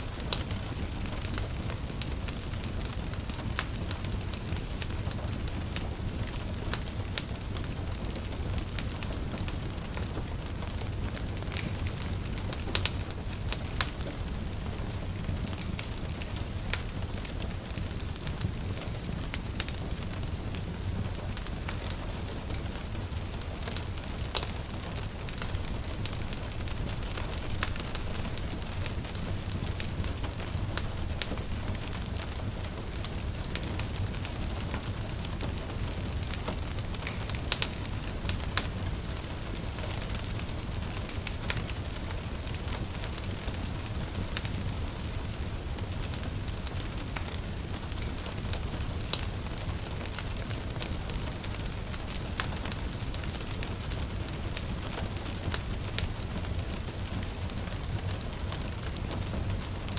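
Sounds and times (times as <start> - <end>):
gentle rain: 0.0 - 59.9
wood fire crackling and popping: 0.0 - 59.9.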